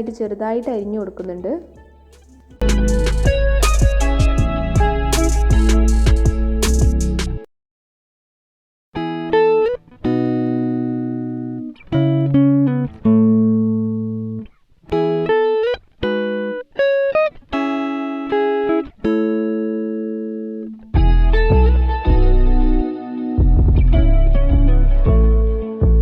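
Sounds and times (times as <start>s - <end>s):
plucked guitar melody: 1.6s - 7.4s, 9.0s - 26.0s.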